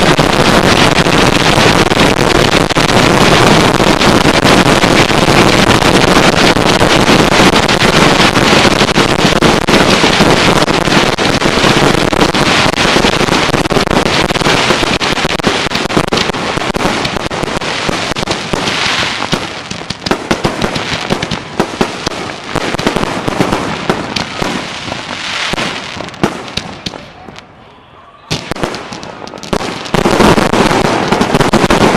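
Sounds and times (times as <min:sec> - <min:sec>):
fireworks bursting and crackling: 0:00.0 - 0:31.9.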